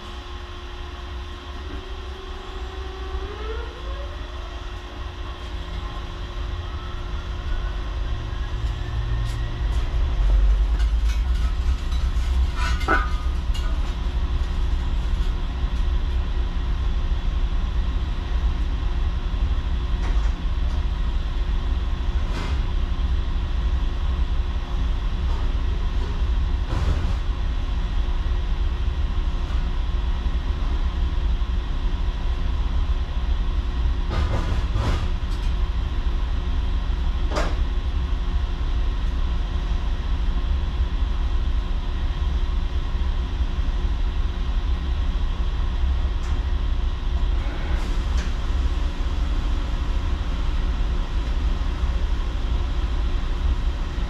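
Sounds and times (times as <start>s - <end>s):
machine motors whining and rumbling: 0.0s - 54.0s.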